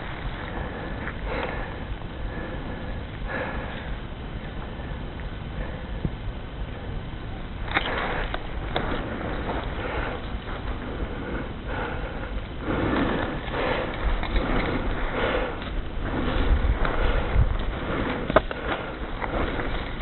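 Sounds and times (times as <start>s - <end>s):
breath-like swells of noise: 0.0s - 20.0s
wind rumble on microphone: 0.0s - 20.0s.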